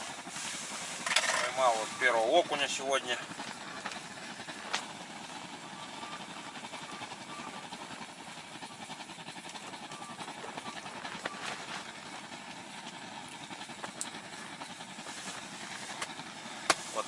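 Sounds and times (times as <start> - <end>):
blowtorch hissing: 0.0 - 17.0.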